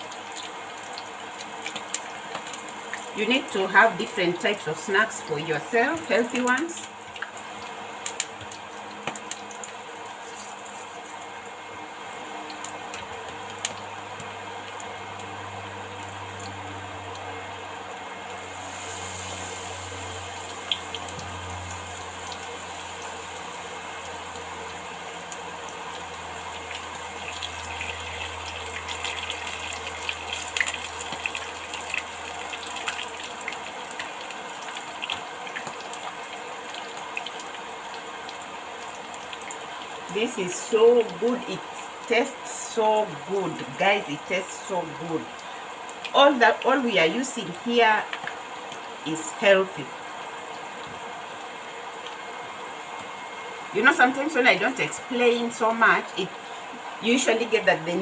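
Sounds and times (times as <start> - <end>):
leaves sizzling in hot oil: 0.0 - 58.0.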